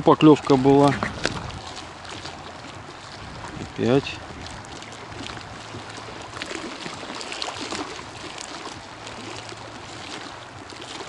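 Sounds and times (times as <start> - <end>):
small waves lapping against concrete: 0.0 - 11.0.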